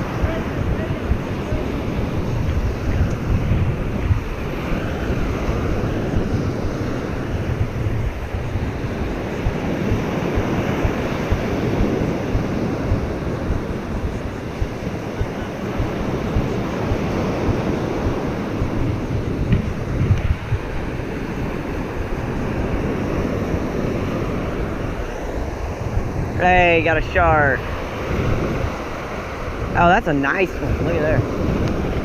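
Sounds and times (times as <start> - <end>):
ocean surf on a beach: 0.0 - 32.0
wind on microphone: 0.0 - 32.0.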